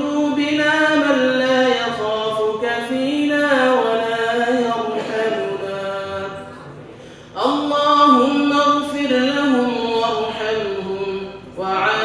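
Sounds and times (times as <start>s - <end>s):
man chanting melodically: 0.0s - 6.7s, 7.4s - 12.0s.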